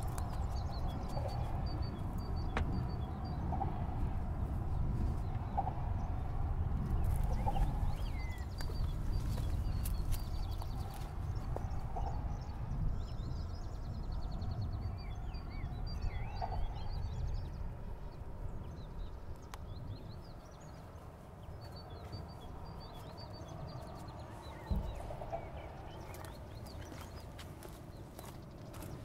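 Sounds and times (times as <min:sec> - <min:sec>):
small birds chirping and trilling: 0:00.0 - 0:29.0
steady low rumble: 0:00.0 - 0:29.0.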